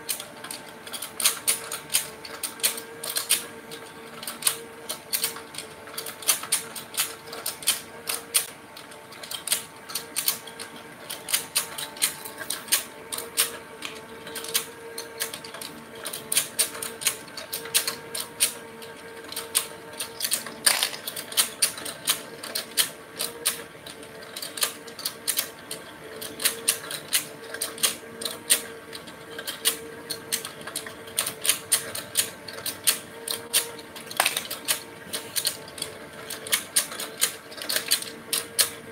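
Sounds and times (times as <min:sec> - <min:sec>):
steady motor hum: 0:00.0 - 0:38.9
toy clicking and clattering: 0:00.0 - 0:38.9.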